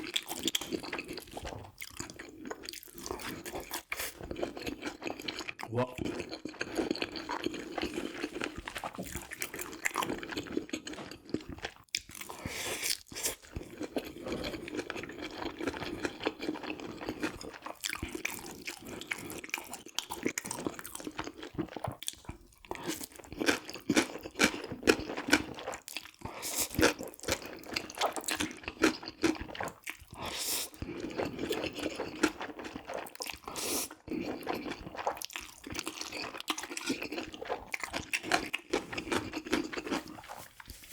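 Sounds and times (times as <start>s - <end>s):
person chewing and biting: 0.0s - 40.9s.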